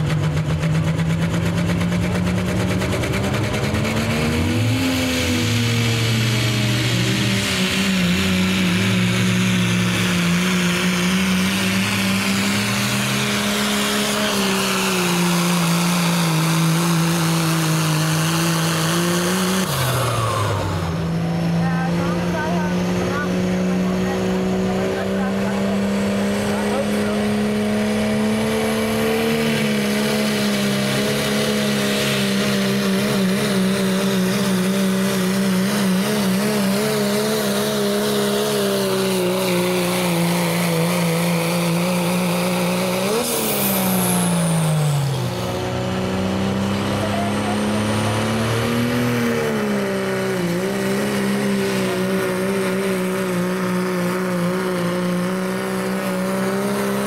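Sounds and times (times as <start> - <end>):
diesel truck engine at full throttle: 0.0 - 57.0.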